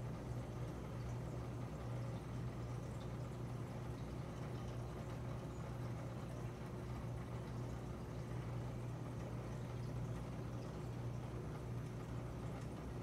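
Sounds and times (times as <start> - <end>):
aquarium filter humming: 0.0 - 13.0
faint moving water: 0.0 - 13.0.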